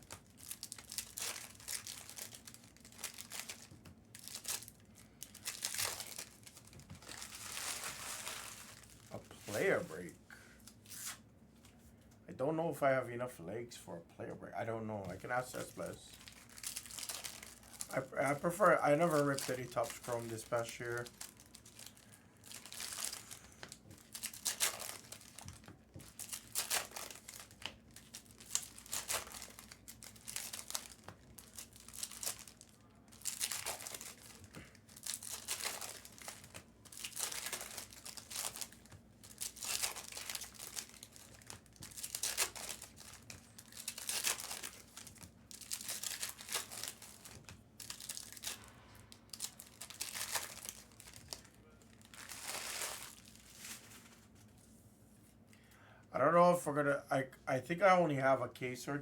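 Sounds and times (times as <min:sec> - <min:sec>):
card pack wrappers tearing: 0:00.0 - 0:10.1, 0:15.2 - 0:54.2.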